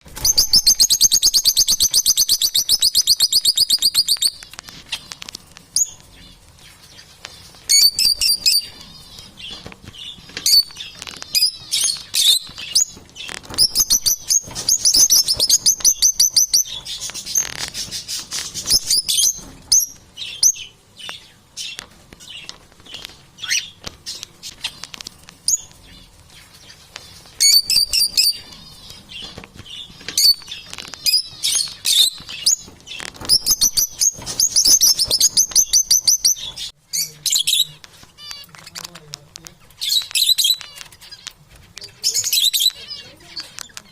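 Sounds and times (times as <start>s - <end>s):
parrots chirping and trilling: 0.0s - 43.9s.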